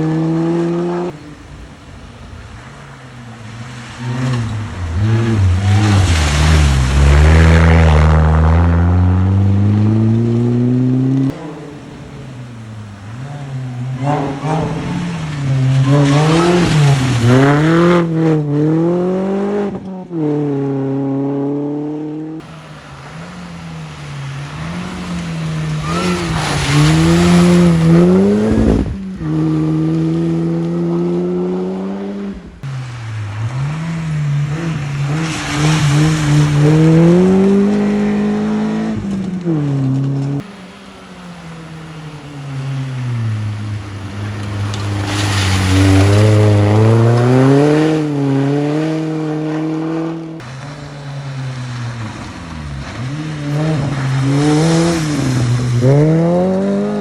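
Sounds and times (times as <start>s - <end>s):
rally car engines revving past: 0.0s - 57.0s.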